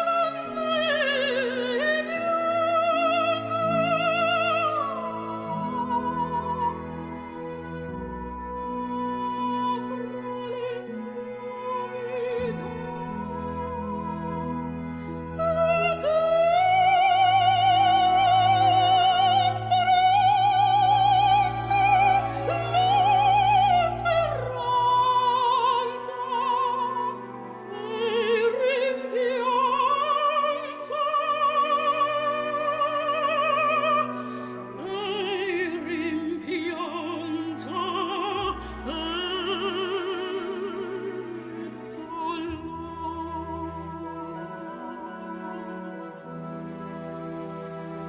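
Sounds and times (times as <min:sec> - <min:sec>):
operatic singing: 0:00.0 - 0:48.0.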